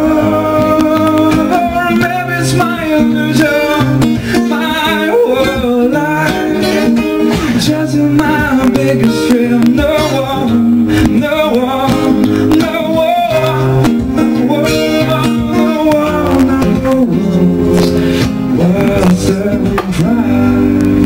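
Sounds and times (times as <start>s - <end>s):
man singing into a microphone: 0.0s - 21.0s
strummed acoustic guitar: 0.0s - 21.0s.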